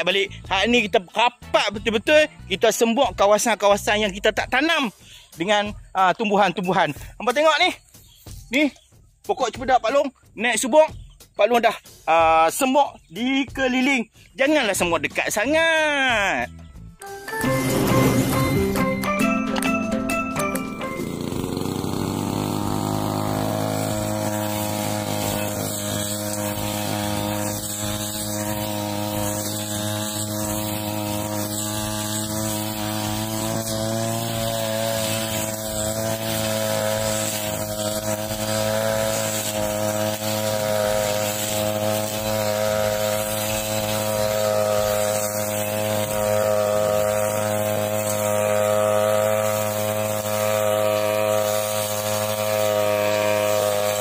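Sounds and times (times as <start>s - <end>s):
brush cutter cutting grass: 0.0s - 16.4s, 17.0s - 18.8s, 20.5s - 54.0s.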